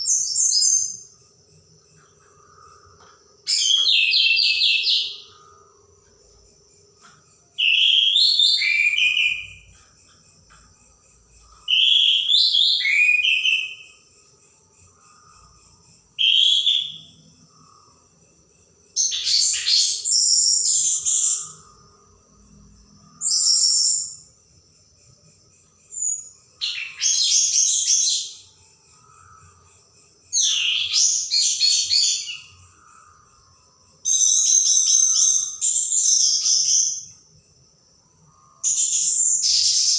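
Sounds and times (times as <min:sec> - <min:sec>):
faint steady high tone: 0:00.0 - 0:39.9.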